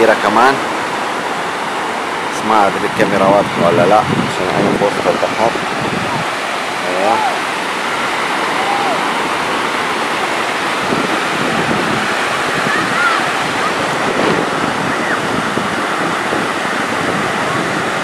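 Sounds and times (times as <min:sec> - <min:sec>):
surf breaking on beach: 0:00.0 - 0:18.0.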